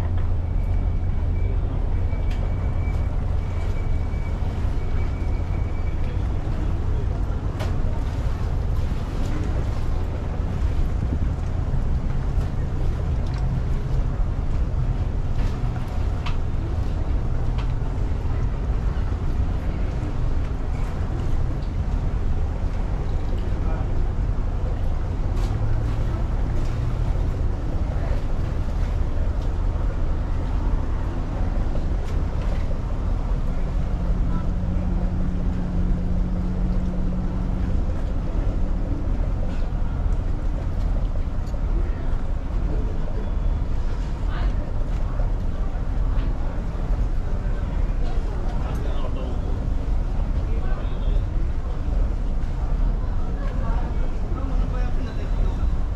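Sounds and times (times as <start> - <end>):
low steady hum: 0.0 - 55.9
motorboat engine droning: 0.0 - 55.9
water rushing past hull: 0.0 - 55.9.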